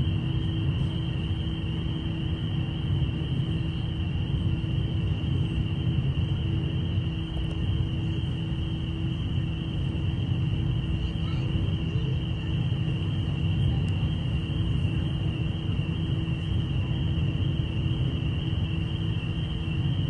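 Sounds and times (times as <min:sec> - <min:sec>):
constant hum: 0:00.0 - 0:20.0
steady high whine: 0:00.0 - 0:20.0.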